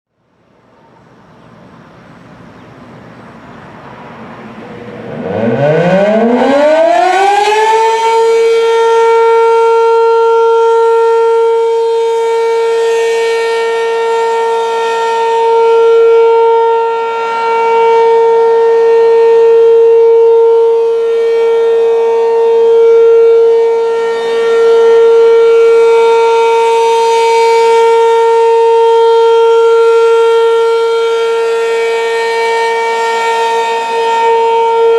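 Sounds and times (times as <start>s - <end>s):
mechanical warning siren steady tone: 0.8s - 34.9s.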